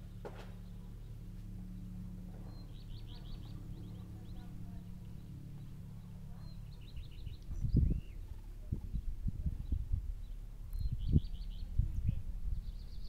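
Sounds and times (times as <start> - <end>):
steady low hum: 0.0 - 13.0
songbird chirping trills: 0.5 - 13.0.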